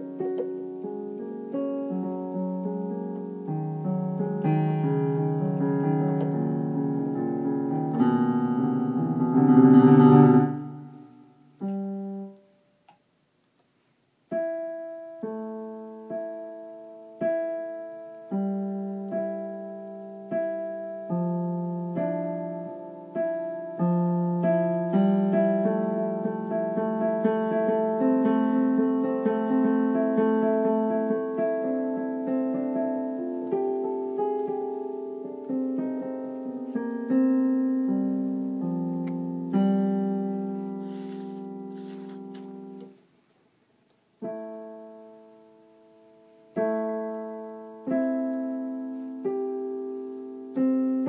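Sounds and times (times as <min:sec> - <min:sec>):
digital piano chords: 0:00.0 - 0:12.9, 0:14.2 - 0:43.0, 0:44.1 - 0:51.0.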